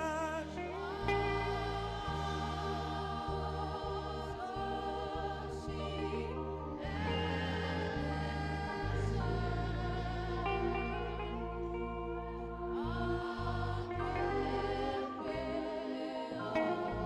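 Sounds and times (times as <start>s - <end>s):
band bass notes: 0.0s - 15.7s
saxophone melody: 0.0s - 17.0s
voices singing along: 0.0s - 17.0s.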